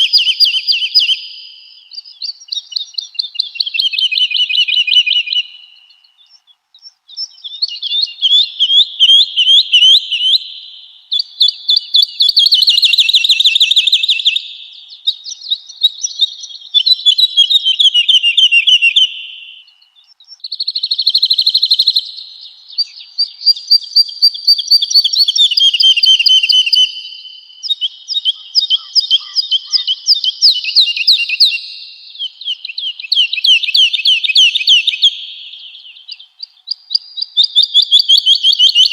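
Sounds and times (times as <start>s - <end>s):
woodlark singing: 0.0s - 38.9s.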